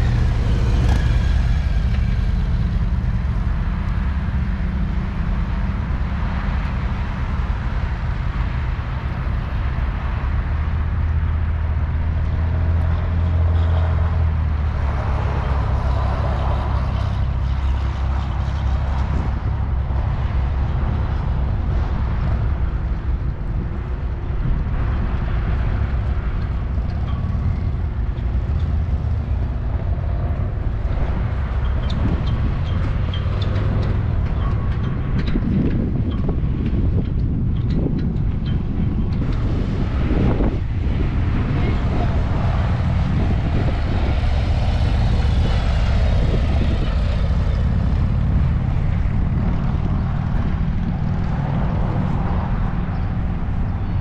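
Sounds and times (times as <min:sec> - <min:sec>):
road noise: 0:00.0 - 0:54.0
vehicle engine drone: 0:00.0 - 0:54.0
wind noise: 0:00.0 - 0:54.0.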